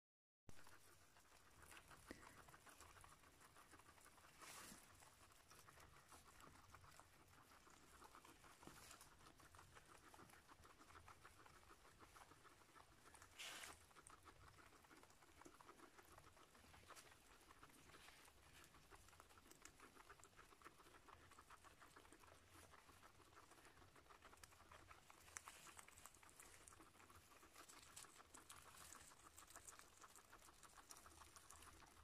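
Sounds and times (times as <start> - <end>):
guinea pigs chewing grass: 0.5 - 32.0.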